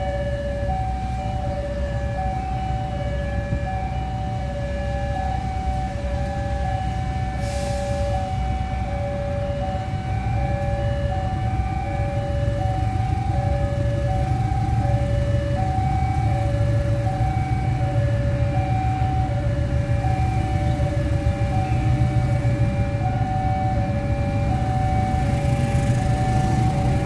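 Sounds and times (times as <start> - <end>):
diesel locomotive rumble: 0.0 - 27.0
two-tone crossing alarm: 0.0 - 27.0.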